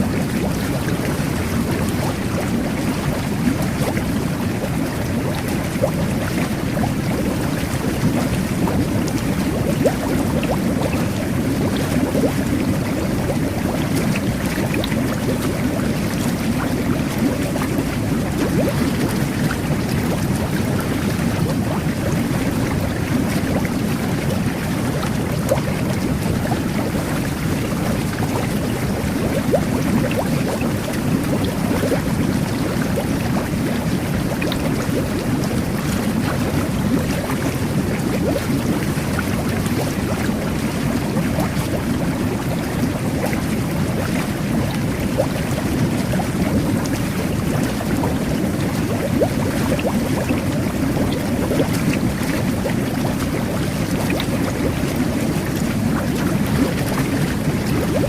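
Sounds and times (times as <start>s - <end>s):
jet bath bubbling water: 0.0s - 58.0s.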